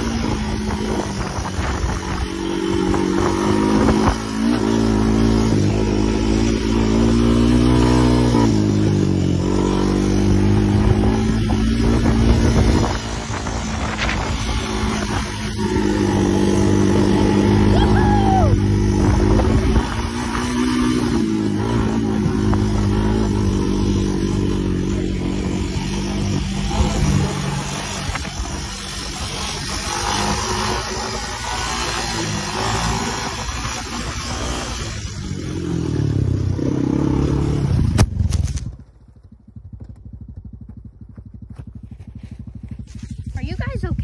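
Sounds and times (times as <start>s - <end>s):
quad bike engine revving: 0.0s - 44.0s.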